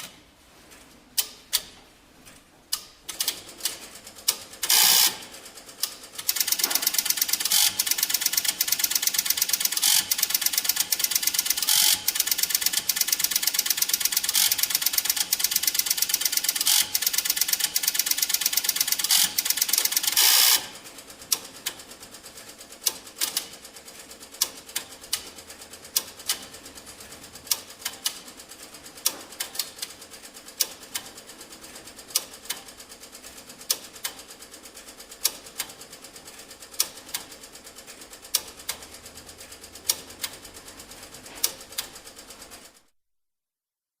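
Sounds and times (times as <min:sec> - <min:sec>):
teletype machine clattering: 0:03.1 - 0:42.6.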